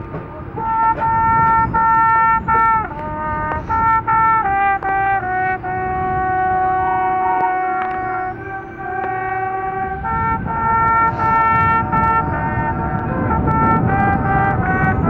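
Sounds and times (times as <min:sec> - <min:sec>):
brass section playing chords: 0:00.0 - 0:15.0
wind rumble on microphone: 0:00.0 - 0:15.0.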